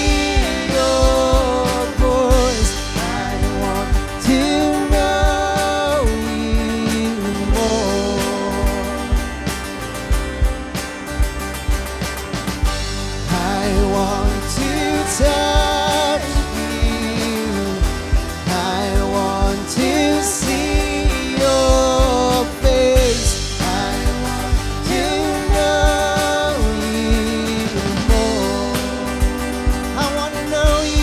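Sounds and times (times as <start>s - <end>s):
person singing: 0.0s - 9.6s, 13.2s - 31.0s
drum hits: 0.0s - 31.0s
worship band playing: 0.0s - 31.0s.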